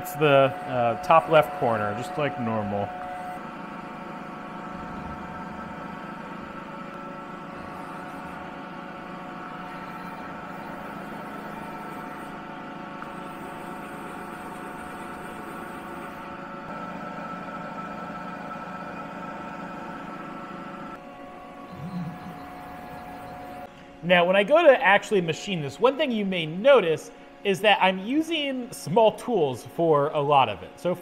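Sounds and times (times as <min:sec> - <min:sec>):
milling machine hum and whine: 0:00.0 - 0:31.0.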